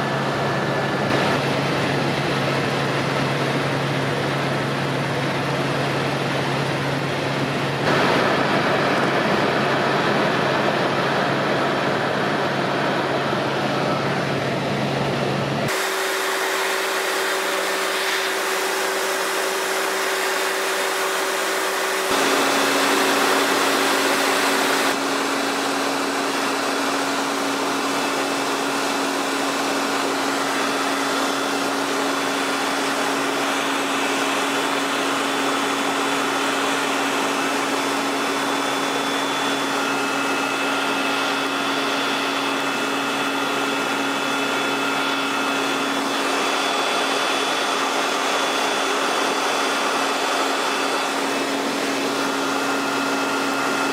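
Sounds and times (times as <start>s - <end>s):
helicopter engine and rotor drone: 0.0s - 53.9s.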